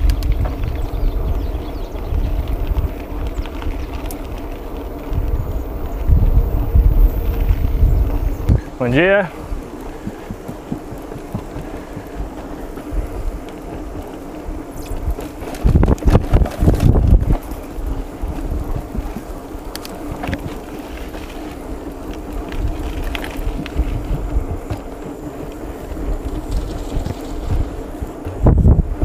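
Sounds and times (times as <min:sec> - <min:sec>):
bike rattling on dirt path: 0:00.0 - 0:29.0
wind buffeting microphone: 0:00.0 - 0:29.0.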